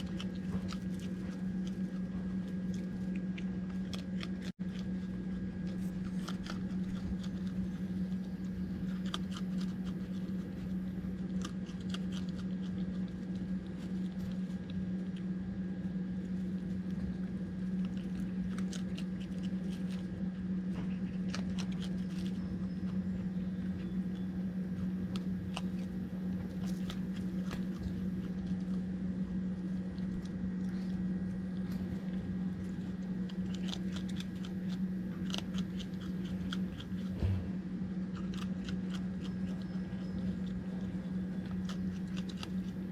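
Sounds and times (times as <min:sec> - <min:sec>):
animal crunching dry food: 0:00.0 - 0:42.9
low hum: 0:00.0 - 0:42.9.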